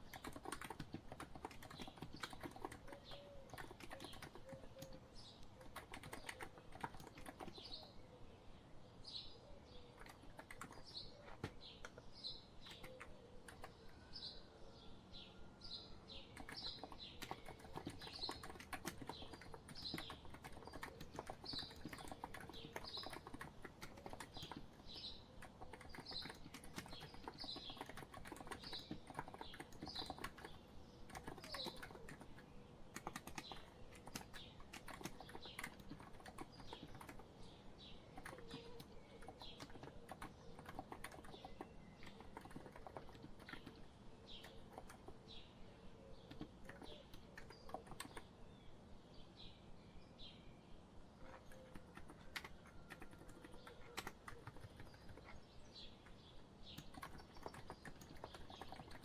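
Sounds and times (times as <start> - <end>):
keyboard typing clicks: 0.0 - 7.9, 10.0 - 12.0, 12.6 - 13.8, 16.4 - 45.2, 46.2 - 48.3, 51.3 - 55.4, 56.0 - 59.0
bird chirping: 0.0 - 59.0.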